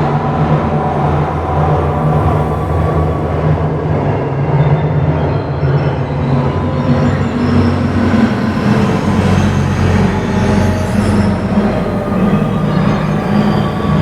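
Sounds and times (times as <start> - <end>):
rumbling electronic drone: 0.0 - 14.0.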